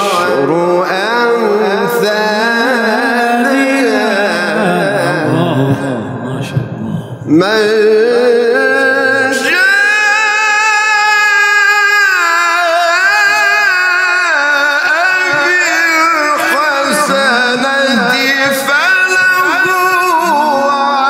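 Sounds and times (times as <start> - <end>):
man reciting melismatically: 0.0 - 21.0.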